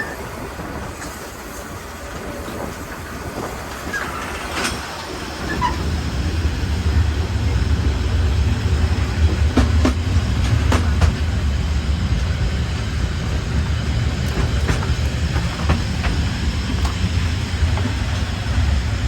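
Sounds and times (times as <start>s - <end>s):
train rumbling along track: 0.0s - 19.0s
wheels clicking over rail joints: 0.0s - 19.0s.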